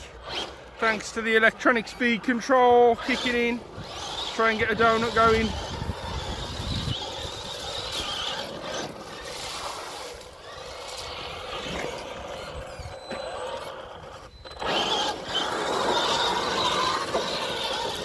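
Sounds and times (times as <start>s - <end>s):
electric motors whining: 0.0s - 18.0s
tyres on dirt: 0.0s - 18.0s.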